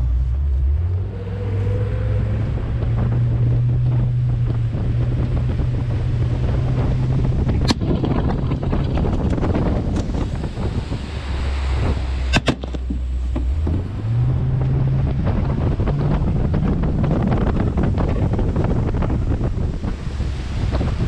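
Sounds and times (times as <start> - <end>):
boat engine running: 0.0 - 21.0
wind noise on microphone: 0.0 - 21.0.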